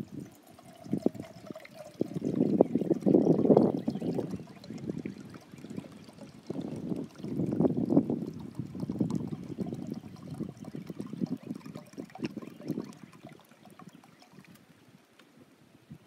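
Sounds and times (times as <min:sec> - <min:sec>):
water pouring into tin cup: 0:00.0 - 0:15.0.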